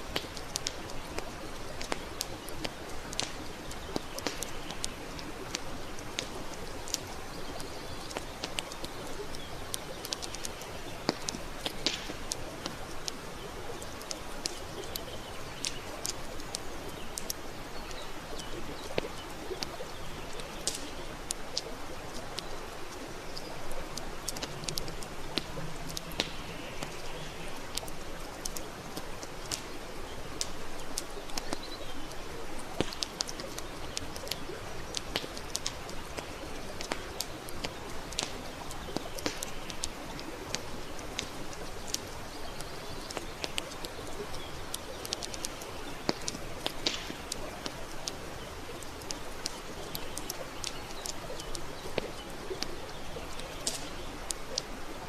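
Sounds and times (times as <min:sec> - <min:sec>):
campfire crackling and popping: 0:00.0 - 0:55.0
soft fire hiss: 0:00.0 - 0:55.0.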